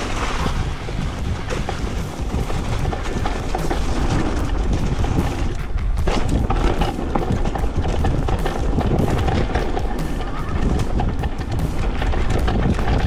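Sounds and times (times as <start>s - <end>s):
bike rattling and clattering: 0.0s - 13.0s
tyres rumbling over dirt: 0.0s - 13.0s
wind buffeting microphone: 0.0s - 13.0s.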